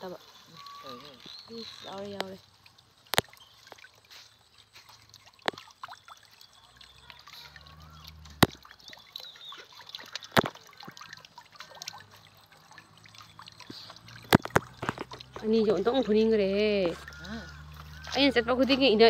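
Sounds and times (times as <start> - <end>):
water trickling and dripping: 0.0 - 19.0.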